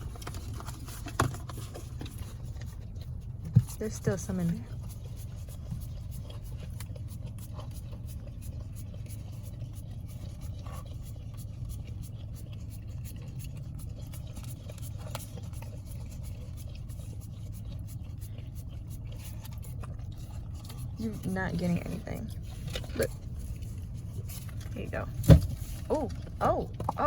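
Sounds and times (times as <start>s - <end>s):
car engine low rumble: 0.0s - 27.0s
puppy licking and scraping cup: 0.0s - 27.0s.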